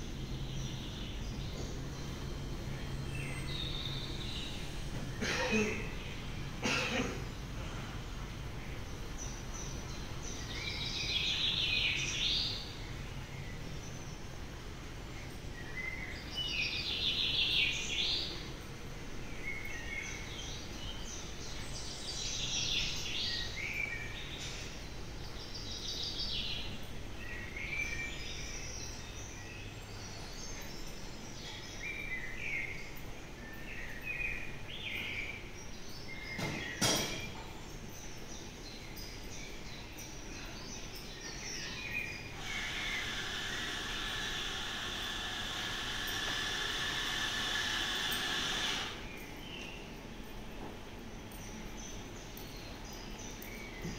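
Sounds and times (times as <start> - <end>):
steady low hum: 0.0 - 36.4, 37.2 - 53.9
birds chirping: 0.0 - 53.9.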